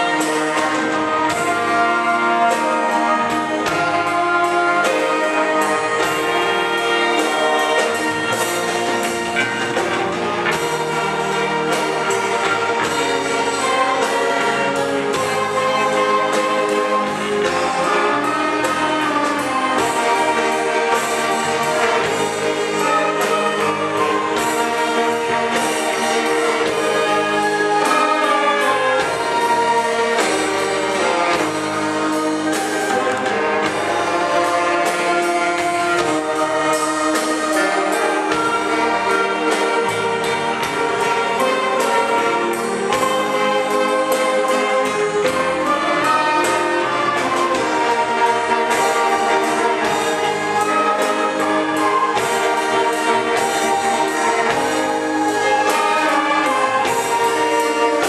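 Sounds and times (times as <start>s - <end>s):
brass-like wind instrument: 0.0s - 58.0s
string orchestra playing worship music: 0.0s - 58.0s.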